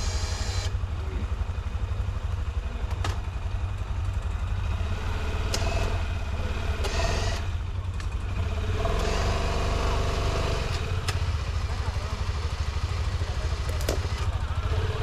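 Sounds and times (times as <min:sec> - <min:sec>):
atv engine throbbing: 0:00.0 - 0:15.0.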